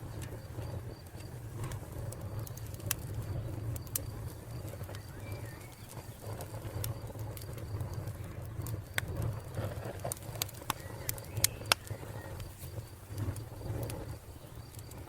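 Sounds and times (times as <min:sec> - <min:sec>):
crickets chirping: 0:00.0 - 0:15.0
wood fire crackling: 0:00.0 - 0:15.0.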